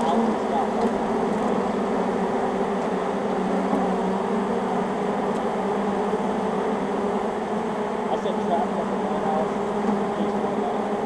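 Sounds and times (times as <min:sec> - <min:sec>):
bee swarm buzzing: 0:00.0 - 0:11.0.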